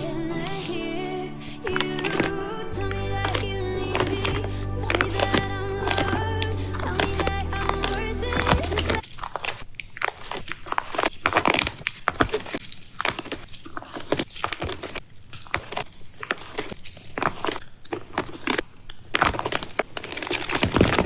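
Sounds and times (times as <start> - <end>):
packaging crinkling: 4.0 - 21.0.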